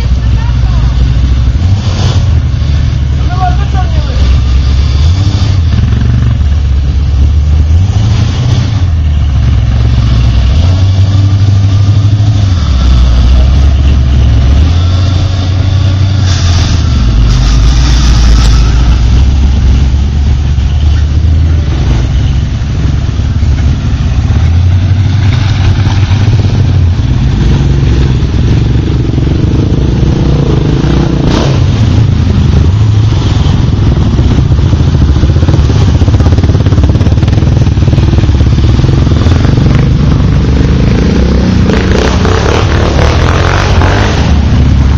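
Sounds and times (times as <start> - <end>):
atv engines revving: 0.0 - 44.9.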